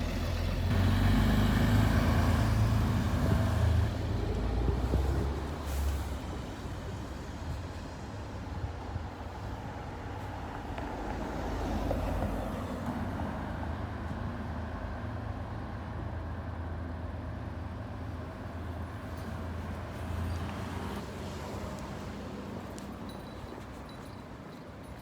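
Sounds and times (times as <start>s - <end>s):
bus diesel engine rumble: 0.0s - 25.0s.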